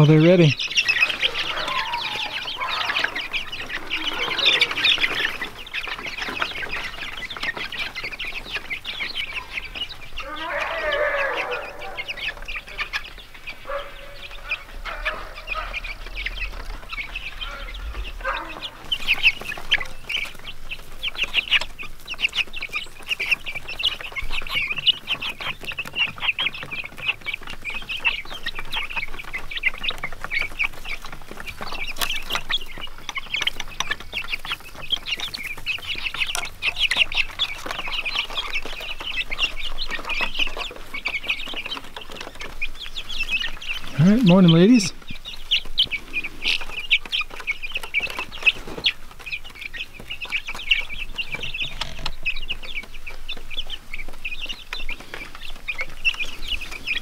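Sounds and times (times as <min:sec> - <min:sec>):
chicks peeping and clucking: 0:00.0 - 0:57.0.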